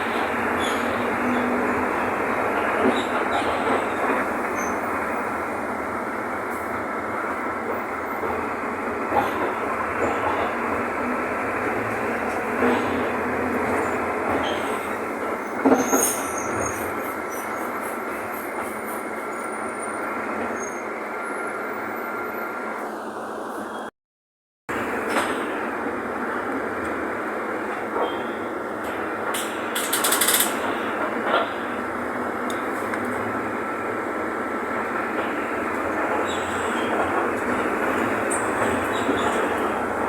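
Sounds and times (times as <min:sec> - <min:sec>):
bus diesel engine drone: 0:00.0 - 0:23.9, 0:24.7 - 0:40.0.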